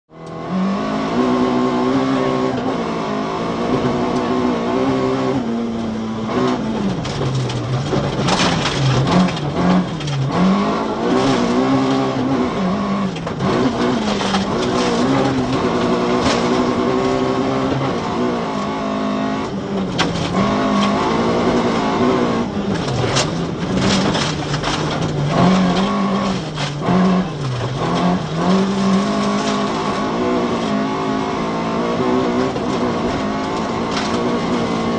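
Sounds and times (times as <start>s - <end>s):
rally car engine revving: 0.1s - 34.9s.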